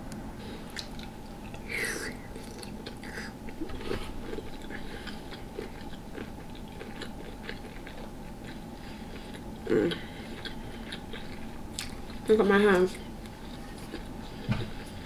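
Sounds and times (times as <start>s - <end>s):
chewing and biting food: 0.7s - 15.0s.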